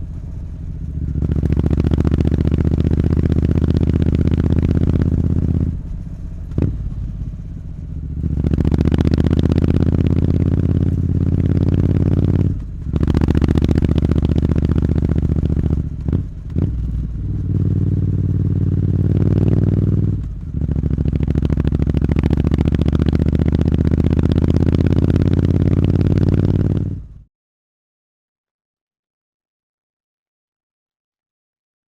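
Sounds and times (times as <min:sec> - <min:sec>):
motorcycle engine running: 0:00.0 - 0:27.3.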